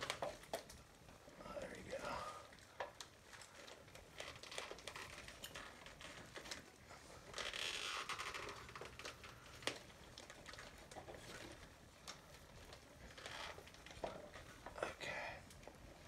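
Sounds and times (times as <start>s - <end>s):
faint rustling handling noise: 0.0s - 16.0s.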